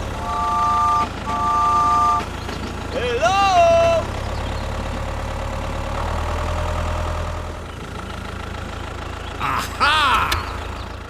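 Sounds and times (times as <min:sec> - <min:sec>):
engine idling with low hum: 0:00.0 - 0:11.0.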